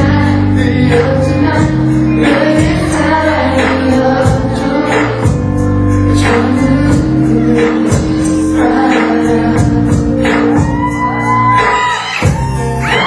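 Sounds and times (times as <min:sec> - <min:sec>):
pop song with slow beat: 0:00.0 - 0:13.0.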